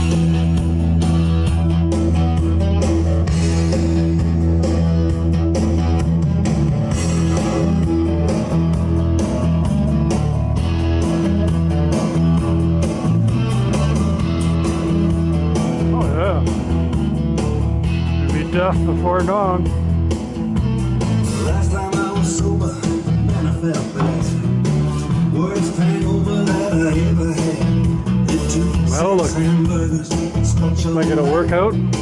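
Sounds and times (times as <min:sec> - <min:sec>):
loud rock music: 0:00.0 - 0:32.0.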